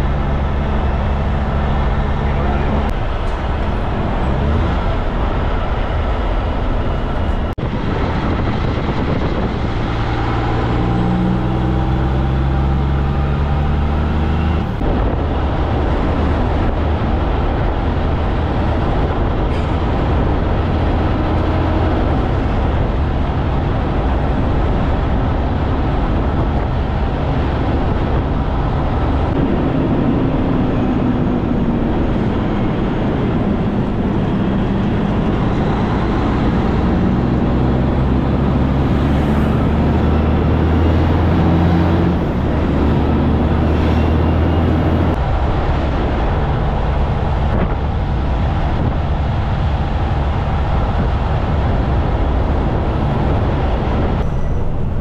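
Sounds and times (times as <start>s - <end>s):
road and wind noise: 0.0s - 55.0s
truck diesel engine pulling: 0.0s - 55.0s.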